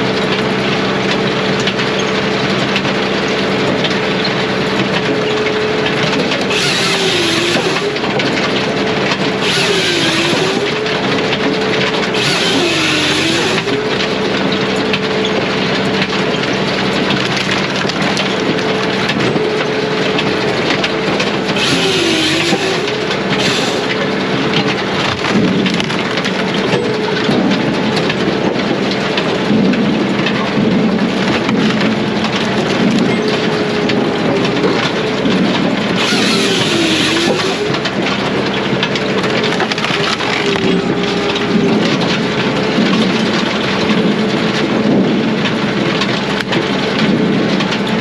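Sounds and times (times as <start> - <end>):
firewood processor droning: 0.0 - 48.0.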